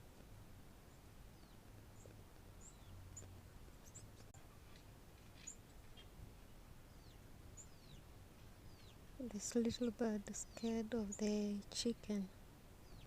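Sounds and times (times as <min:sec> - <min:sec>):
faint low hum: 0:00.0 - 0:13.0
small birds chirping: 0:00.0 - 0:13.0.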